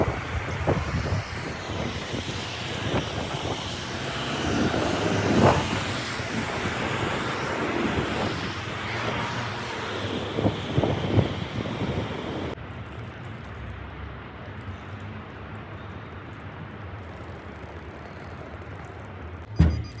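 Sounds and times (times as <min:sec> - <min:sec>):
road traffic rumble: 0:00.0 - 0:19.6.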